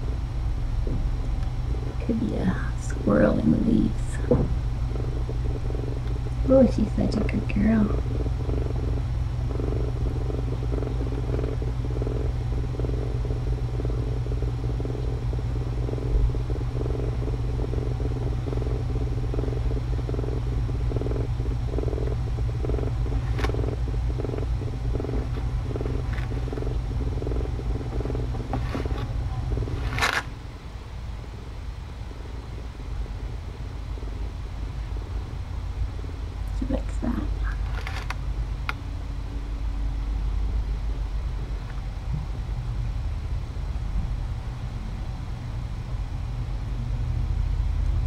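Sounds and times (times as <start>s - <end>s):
cat purring: 0.0s - 42.2s
low hum: 0.0s - 48.0s.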